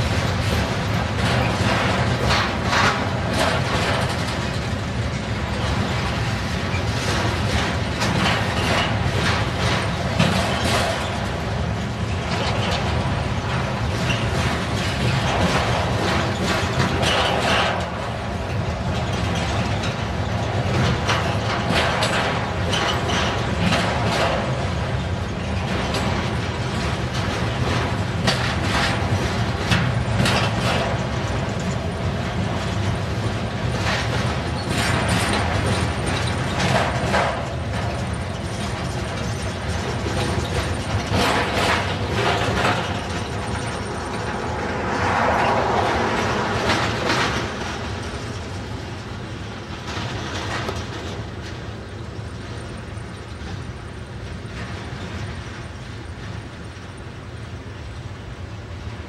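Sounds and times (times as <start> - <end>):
steel wheels rumbling on rail: 0.0 - 59.0
train cars clicking and rattling: 0.0 - 59.0.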